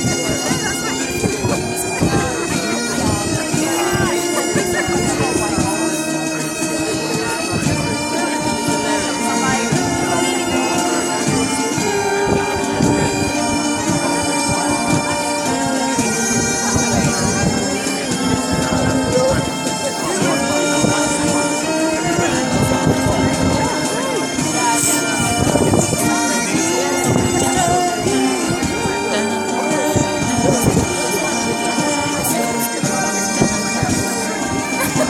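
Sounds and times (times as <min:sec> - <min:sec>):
military band playing: 0:00.0 - 0:35.0.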